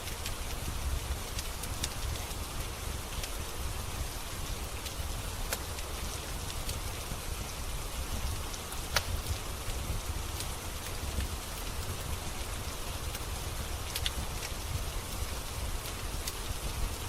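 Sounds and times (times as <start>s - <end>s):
steady rain: 0.0s - 17.0s
wood fire crackling and popping: 0.0s - 17.0s.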